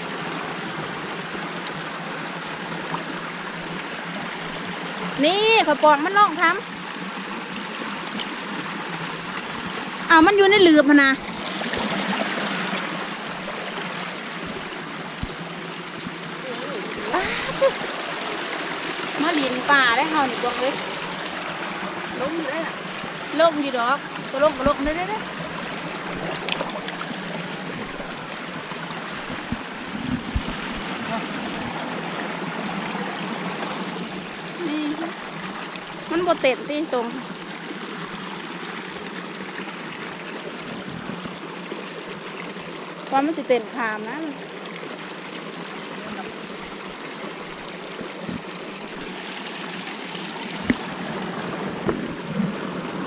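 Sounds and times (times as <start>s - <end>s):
stream water running: 0.0s - 53.0s.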